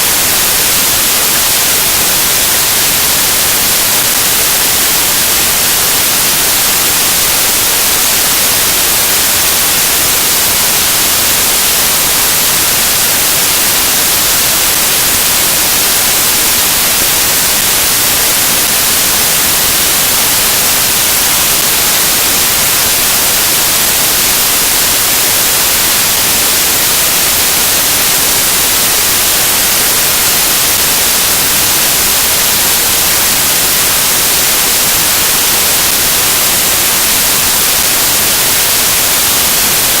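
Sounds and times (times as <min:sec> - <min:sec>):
static hiss: 0:00.0 - 0:40.0.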